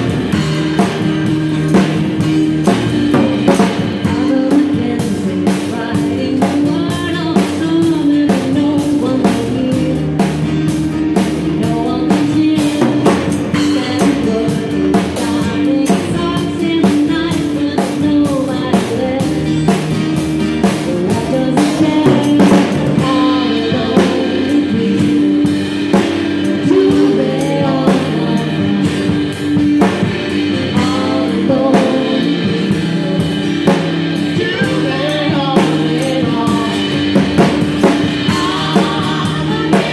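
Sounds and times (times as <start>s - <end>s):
acoustic guitars: 0.0s - 39.9s
drum kit played with sticks: 0.0s - 39.9s
upright bass: 0.0s - 39.9s
person singing: 2.6s - 10.4s, 11.2s - 19.8s, 20.6s - 39.9s.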